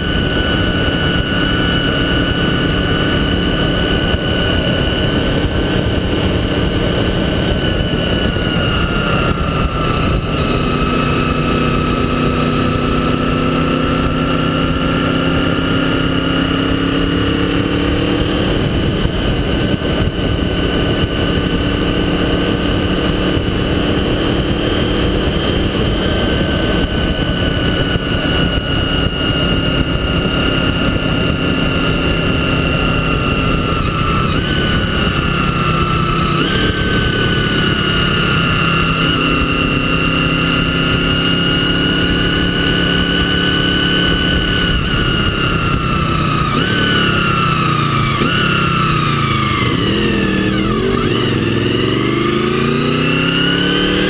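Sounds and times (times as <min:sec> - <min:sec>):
motorcycle engine running: 0:00.0 - 0:54.0
wind and road rush: 0:00.0 - 0:54.0.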